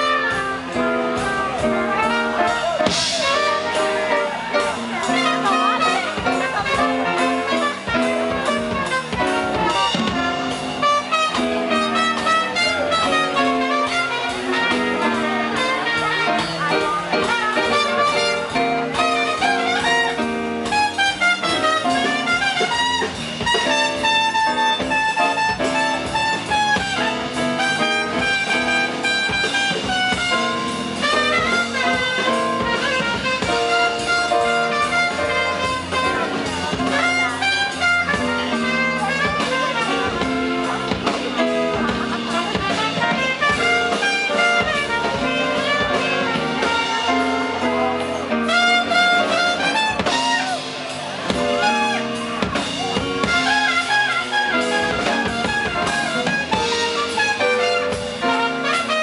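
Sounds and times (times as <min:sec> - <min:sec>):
drum kit: 0:00.0 - 0:59.0
electric bass: 0:00.0 - 0:59.0
trumpet solo: 0:00.0 - 0:59.0.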